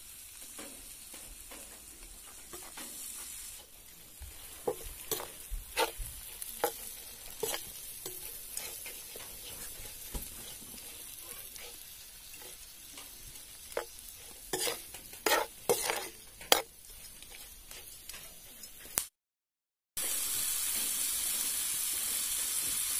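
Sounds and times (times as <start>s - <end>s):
food sizzling in a pan: 0.0s - 19.1s, 20.0s - 22.9s
metal ladle scraping a pan: 0.6s - 19.0s.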